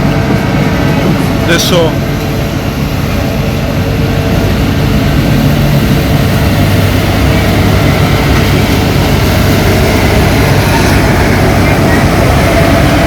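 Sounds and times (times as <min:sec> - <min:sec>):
street sweeper engine drone: 0:00.0 - 0:13.0.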